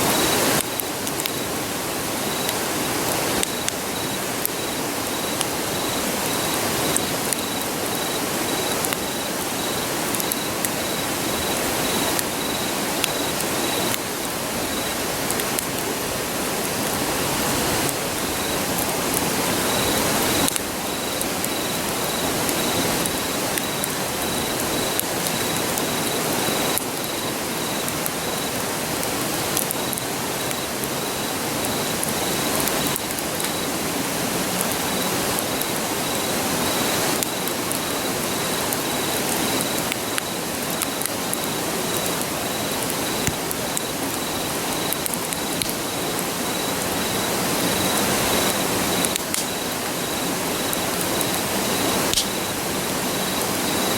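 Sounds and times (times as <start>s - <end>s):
campfire crackling and popping: 0.0s - 17.1s, 17.8s - 53.9s
insect chirping: 0.0s - 53.9s
river rushing: 0.0s - 53.9s.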